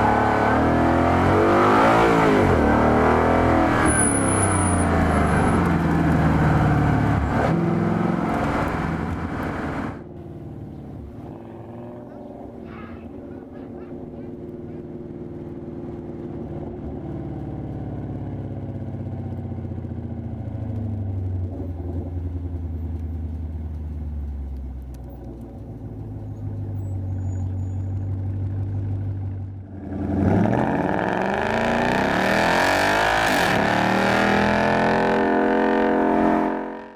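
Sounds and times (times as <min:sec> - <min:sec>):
car engine running: 0:00.0 - 0:32.0.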